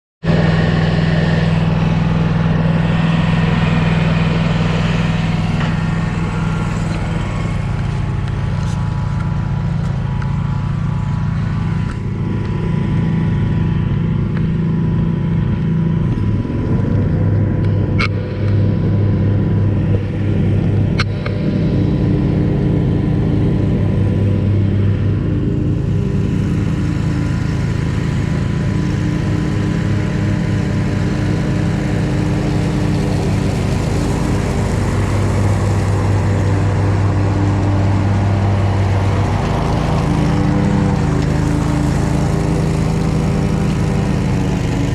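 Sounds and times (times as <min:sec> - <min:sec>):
mower engine drone: 0:00.2 - 0:44.9.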